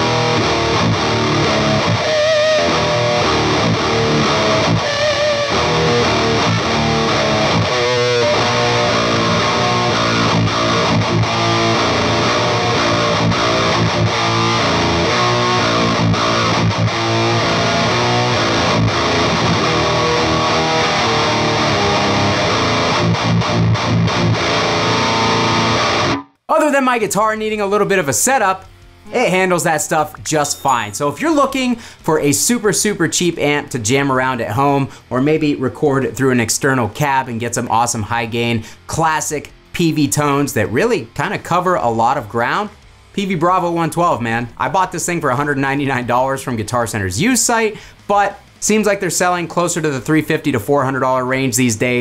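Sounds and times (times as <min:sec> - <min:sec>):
distorted electric guitar riffs: 0:00.0 - 0:52.0.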